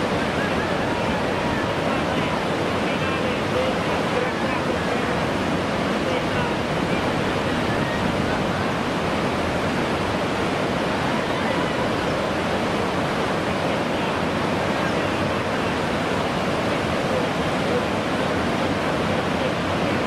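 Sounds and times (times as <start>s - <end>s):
whitewater rapids rushing: 0.0s - 20.0s.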